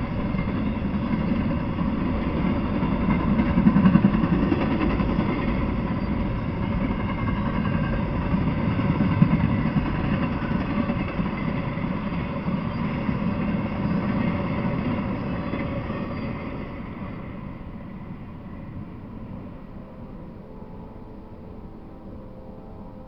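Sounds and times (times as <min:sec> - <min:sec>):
freight train rumbling and rattling: 0:00.0 - 0:23.0.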